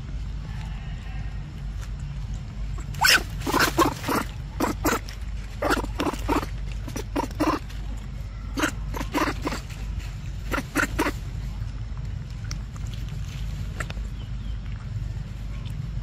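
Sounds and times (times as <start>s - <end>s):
monkey chewing fruit: 1.5s - 16.0s.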